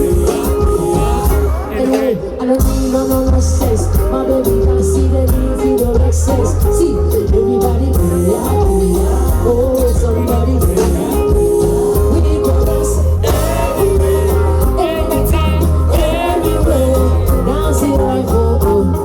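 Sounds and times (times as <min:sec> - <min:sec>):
person singing: 0:00.0 - 0:19.0.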